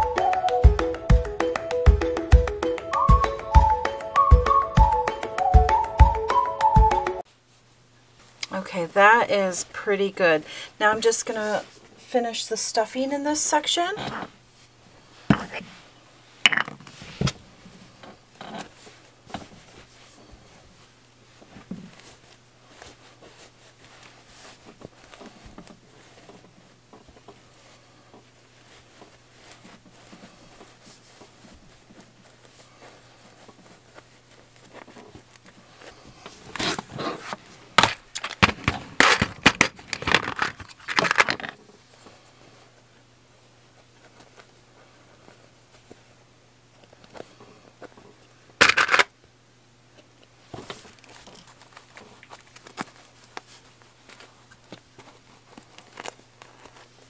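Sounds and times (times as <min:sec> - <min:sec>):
rustling of stuffing by hand: 0:07.2 - 0:48.9, 0:50.0 - 0:57.0.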